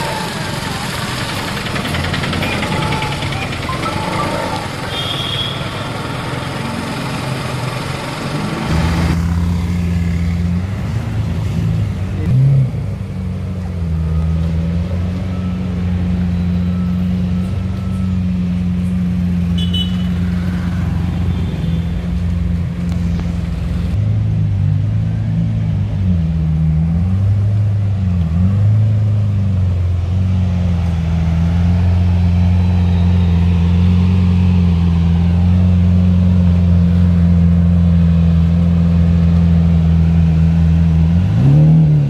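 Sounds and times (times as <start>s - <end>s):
street noise: 0.0s - 42.0s
sports car engine at low speed: 6.7s - 42.0s.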